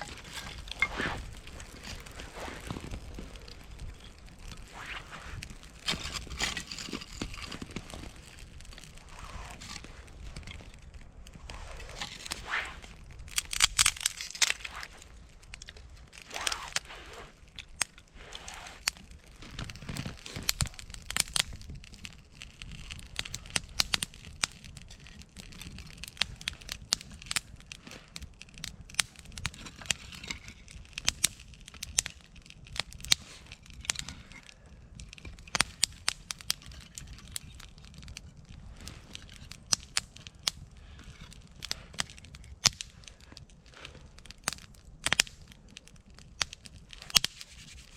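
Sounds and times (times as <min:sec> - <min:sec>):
campfire crackling and popping: 0:00.0 - 0:47.9
rustling crunching noises: 0:00.0 - 0:47.9.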